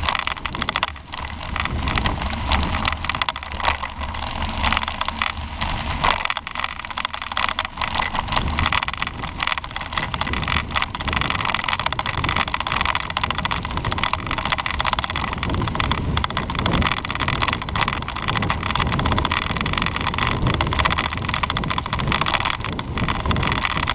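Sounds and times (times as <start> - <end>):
bicycle tyres on gravel: 0.0 - 23.9
wind rumbling on microphone: 0.0 - 23.9.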